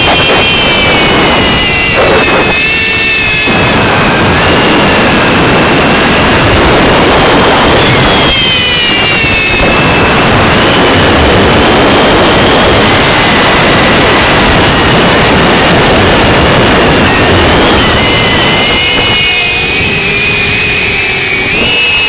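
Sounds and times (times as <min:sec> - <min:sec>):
drone motors whining: 0:00.0 - 0:22.0
wind noise: 0:00.0 - 0:22.0.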